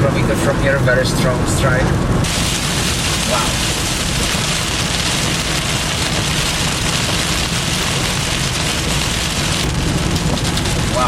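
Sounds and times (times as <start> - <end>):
rain on a moving car: 0.0 - 11.0
tyre and road noise: 0.0 - 11.0.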